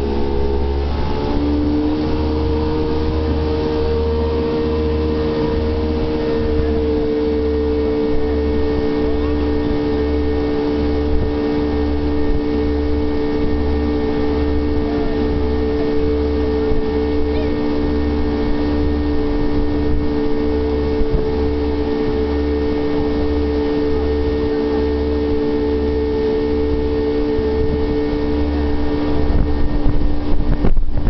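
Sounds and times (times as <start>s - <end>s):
jet boat engine droning: 0.0s - 31.0s.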